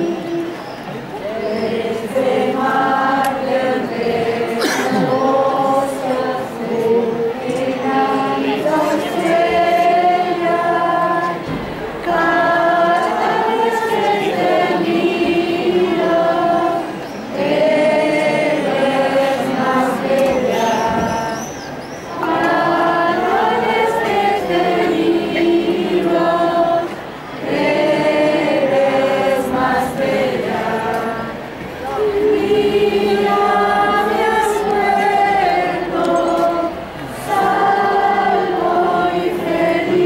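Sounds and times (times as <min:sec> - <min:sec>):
choir singing a hymn: 0:00.0 - 0:40.0.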